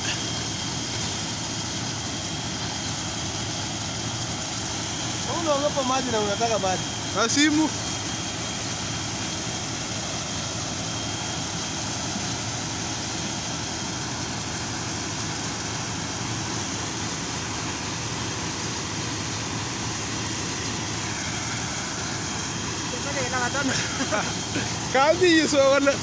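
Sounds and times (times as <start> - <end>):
drilling rig engine: 0.0 - 26.0.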